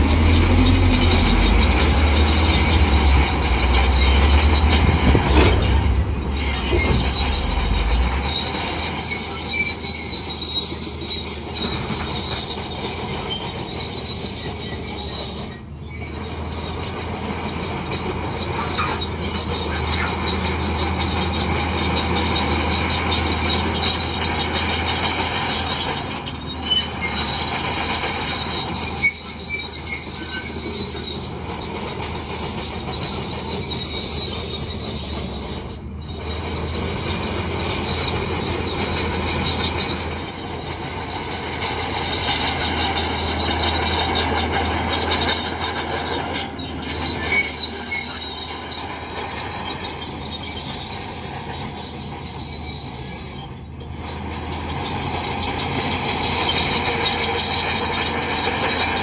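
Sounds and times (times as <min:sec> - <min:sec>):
bulldozer engine drone: 0:00.0 - 0:59.0
steel tracks squealing: 0:00.0 - 0:59.0.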